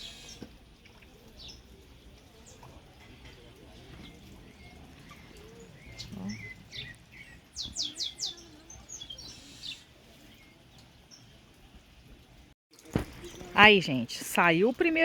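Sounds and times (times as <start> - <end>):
small birds chirping: 0.0 - 12.4, 13.1 - 15.0.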